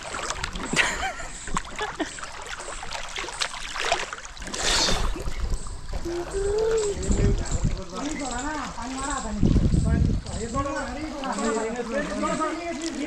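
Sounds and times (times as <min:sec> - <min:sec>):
pool water splashing and lapping: 0:00.0 - 0:13.0.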